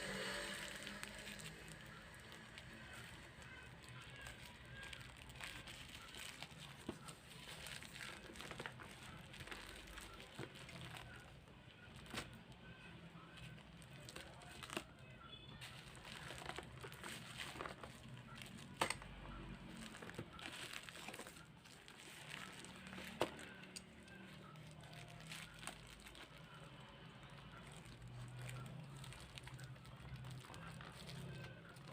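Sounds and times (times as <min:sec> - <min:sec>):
packaging crinkling and rustling: 0:00.1 - 0:31.9.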